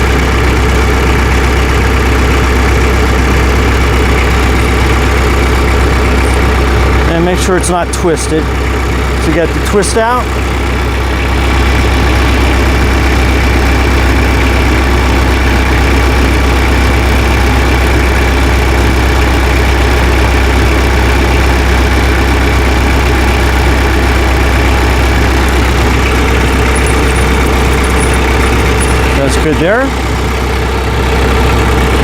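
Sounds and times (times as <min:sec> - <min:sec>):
tractor engine idling: 0:00.0 - 0:32.0.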